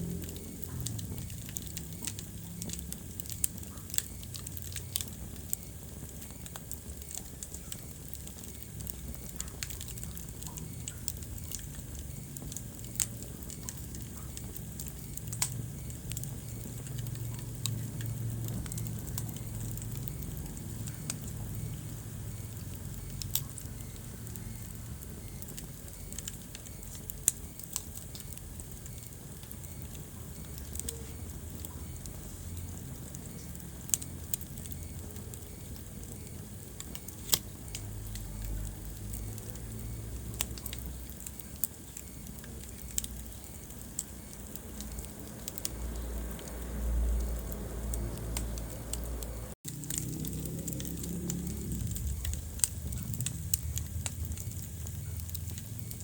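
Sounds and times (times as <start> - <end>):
fire pops and snaps: 0.0 - 56.0
low rumble of burning: 0.0 - 56.0.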